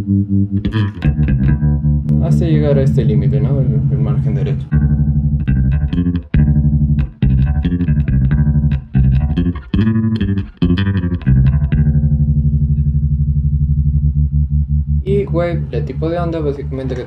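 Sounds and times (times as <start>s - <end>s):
electric bass with tremolo: 0.0s - 17.0s.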